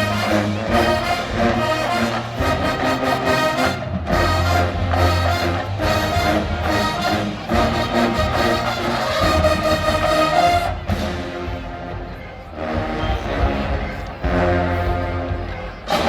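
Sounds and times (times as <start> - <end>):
drumline beat: 0.0 - 16.0
marching band brass: 0.0 - 16.0.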